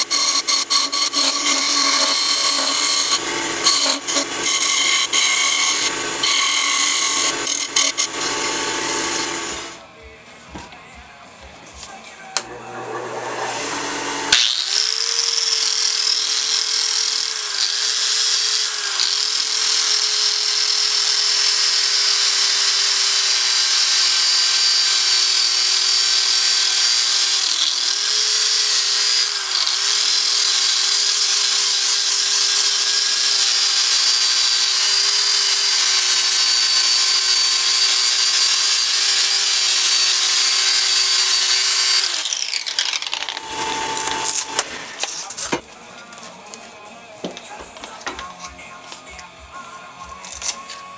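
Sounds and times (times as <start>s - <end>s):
angle grinder sanding wood: 0.0s - 9.8s, 12.4s - 45.6s.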